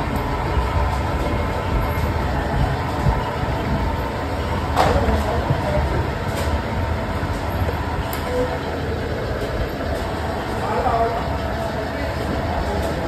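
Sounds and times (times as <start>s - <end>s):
machine rumbling: 0.0s - 13.0s.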